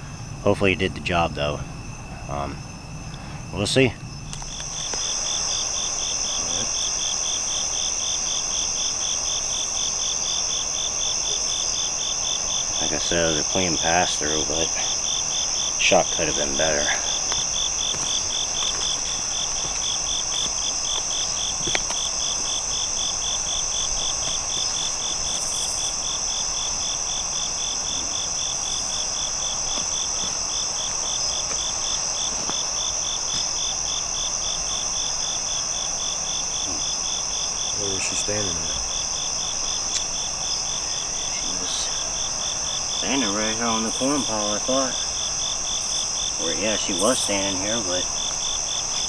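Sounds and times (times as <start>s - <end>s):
high-pitched insect drone: 0.0s - 49.0s
pulsing insect call: 0.0s - 49.0s.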